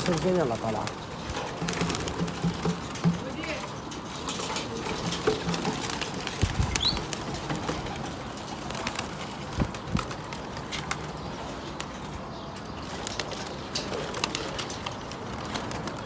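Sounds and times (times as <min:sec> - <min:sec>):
pigeons cooing: 0:00.0 - 0:16.0
wings flapping: 0:00.0 - 0:16.0.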